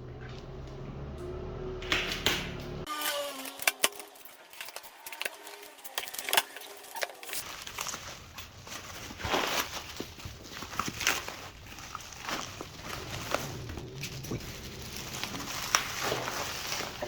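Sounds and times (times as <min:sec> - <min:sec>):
packaging rustling and scraping: 0:02.9 - 0:17.0.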